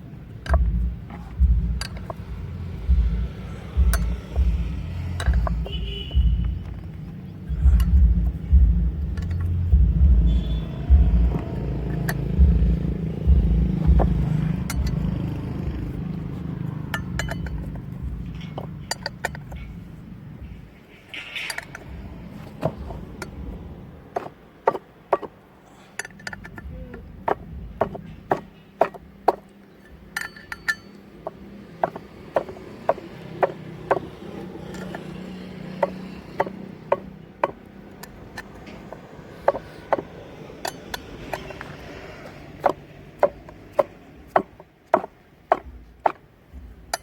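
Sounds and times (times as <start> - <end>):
metal tools clinking: 0.3 - 2.8, 3.6 - 8.4, 9.0 - 9.8, 11.3 - 46.2, 46.8 - 47.0.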